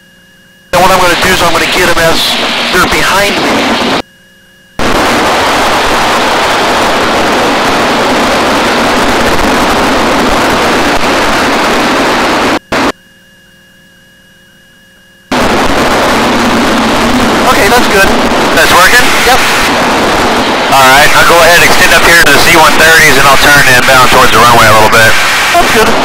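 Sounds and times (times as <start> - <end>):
aircraft cockpit engine and wind rush: 0.0 - 26.0.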